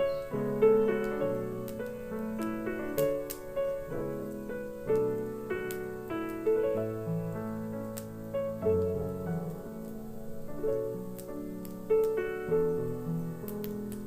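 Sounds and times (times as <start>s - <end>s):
fireplace crackles: 0.0s - 14.0s
slow gentle solo piano: 0.0s - 14.0s.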